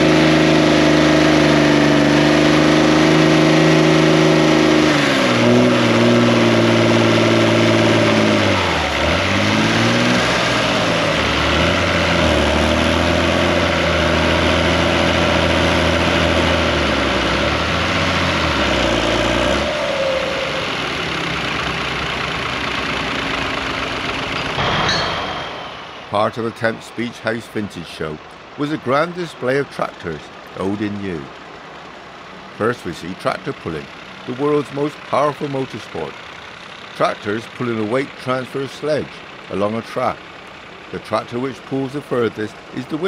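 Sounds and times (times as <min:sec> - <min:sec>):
tractor engine straining: 0:00.0 - 0:43.0.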